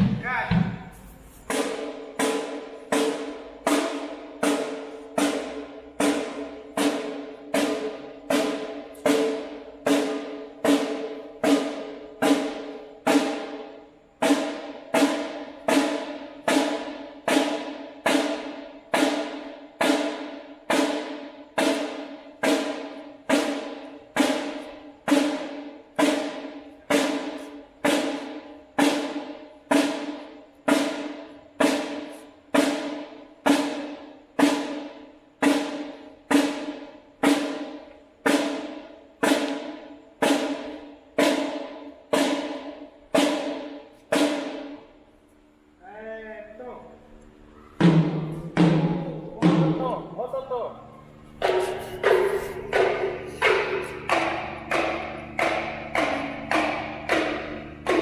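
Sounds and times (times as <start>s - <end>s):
drum hits: 0.0s - 45.0s, 47.5s - 50.5s, 51.1s - 58.0s.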